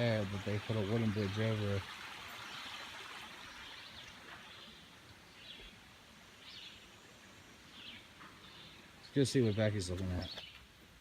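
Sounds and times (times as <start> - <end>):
small stream flowing: 0.0 - 11.0.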